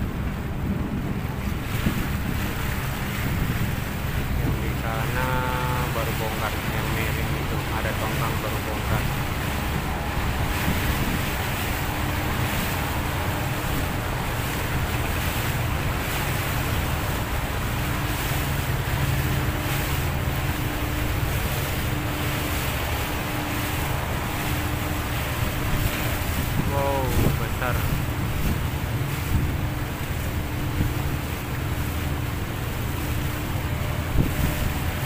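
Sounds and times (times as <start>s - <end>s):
boat engine humming: 0.0s - 35.0s
water washing past hull: 0.0s - 35.0s
wind buffeting microphone: 0.0s - 35.0s.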